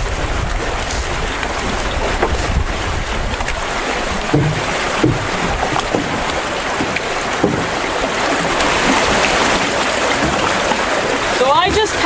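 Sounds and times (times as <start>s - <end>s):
river water rushing: 0.0s - 12.0s
water gurgles and sloshes: 0.0s - 12.0s.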